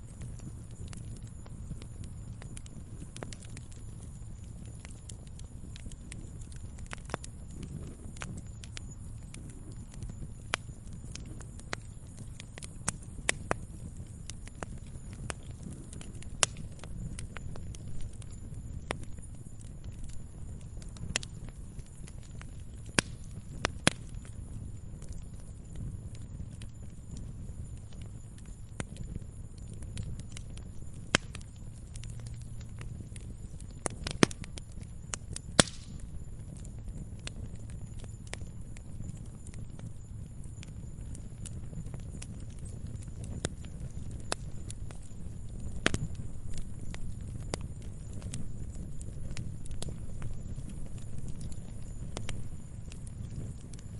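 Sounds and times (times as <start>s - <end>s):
bonfire crackling and popping: 0.0s - 53.9s
low rumble of flame: 0.0s - 53.9s.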